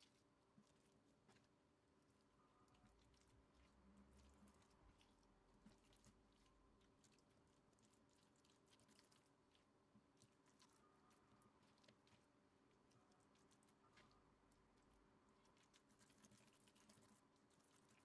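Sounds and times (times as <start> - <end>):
soft squishing and crackling: 0.0 - 18.0.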